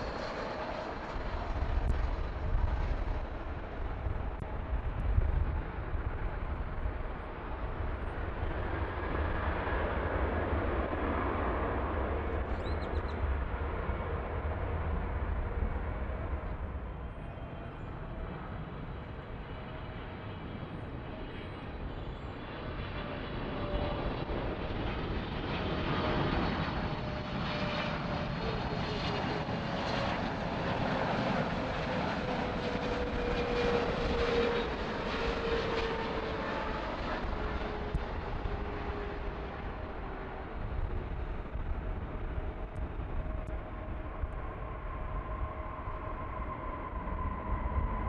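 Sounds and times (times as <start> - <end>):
jet engine rumble: 0.0 - 48.0
jet engine whine falling in pitch: 0.0 - 48.0.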